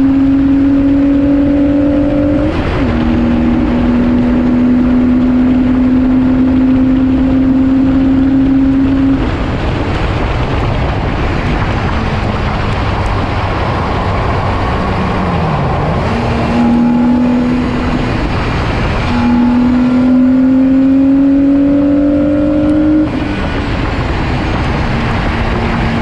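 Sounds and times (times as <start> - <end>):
race car engine accelerating: 0.0 - 26.0
wind and road noise: 0.0 - 26.0.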